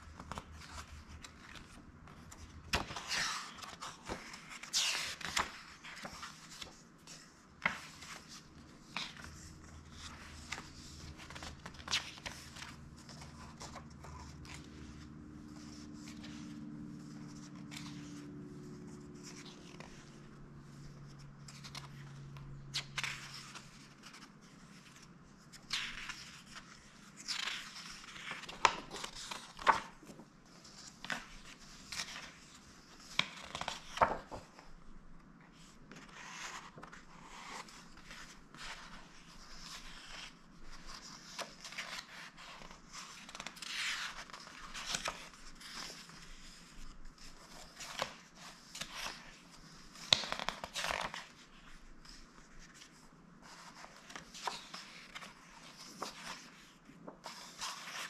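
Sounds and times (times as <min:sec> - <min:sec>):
book pages being flipped: 0:00.0 - 0:34.8, 0:35.5 - 0:58.0.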